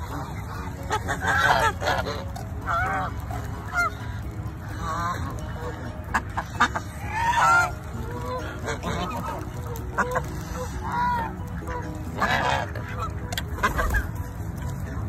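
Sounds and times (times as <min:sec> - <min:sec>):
crowd of waterfowl: 0:00.0 - 0:15.0
geese honking: 0:00.0 - 0:15.0.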